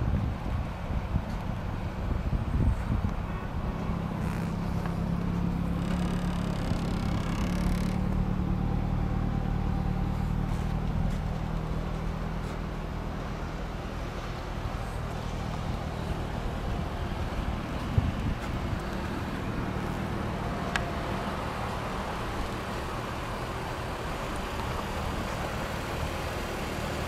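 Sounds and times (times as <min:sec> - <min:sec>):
car engine idling: 0:00.4 - 0:27.0.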